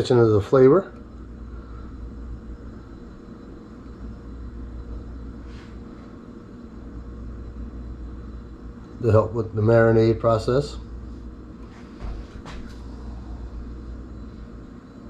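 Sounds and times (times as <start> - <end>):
low hum of room machinery: 0.0 - 15.0.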